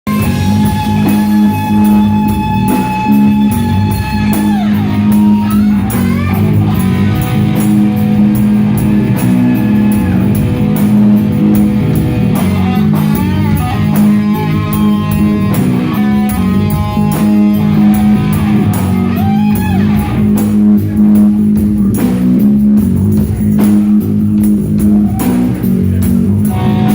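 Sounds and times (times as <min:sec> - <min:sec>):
bass guitar: 0:00.0 - 0:26.9
electric guitar bending notes: 0:00.0 - 0:26.9
drum kit steady beat: 0:00.1 - 0:26.9.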